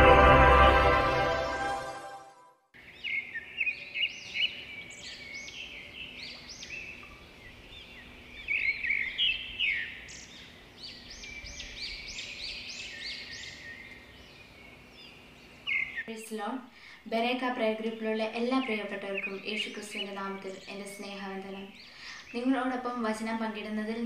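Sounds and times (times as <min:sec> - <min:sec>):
birds chirping: 0:02.8 - 0:24.0
faint steady hum: 0:02.8 - 0:24.0.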